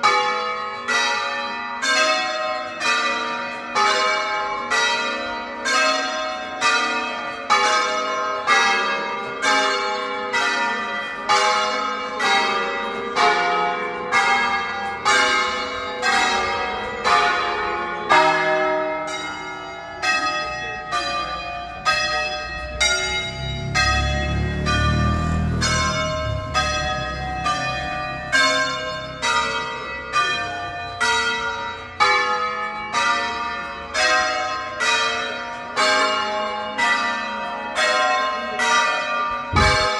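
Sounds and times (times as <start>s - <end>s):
large church bells pealing: 0.0s - 39.9s.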